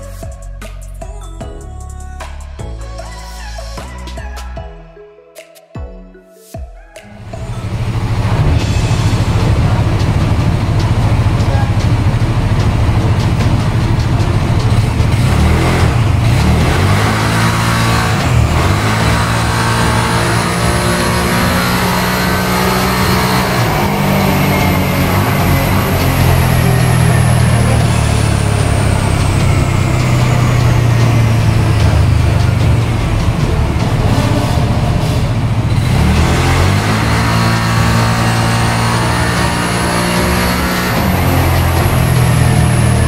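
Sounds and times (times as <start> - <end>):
scooter engine at full throttle: 7.2 - 43.0.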